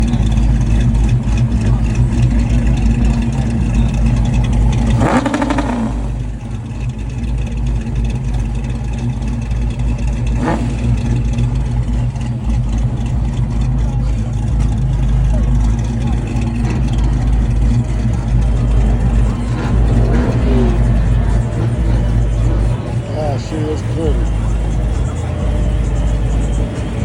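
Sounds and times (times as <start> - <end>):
car engine idling: 0.0 - 27.0
engine revving: 0.0 - 27.0.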